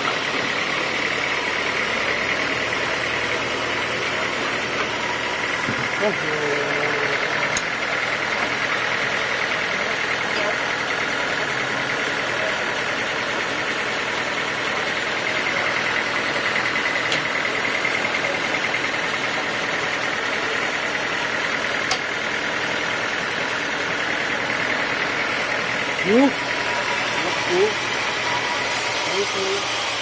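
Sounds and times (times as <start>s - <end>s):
band sawmill running: 0.0s - 30.0s.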